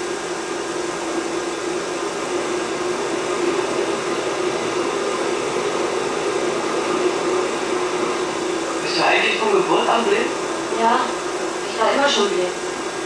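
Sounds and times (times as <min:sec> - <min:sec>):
mechanical whirring: 0:01.2 - 0:13.0.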